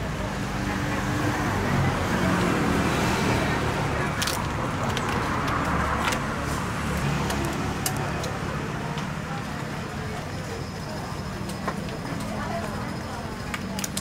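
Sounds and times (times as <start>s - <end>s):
road traffic engine hum: 0.0s - 14.0s.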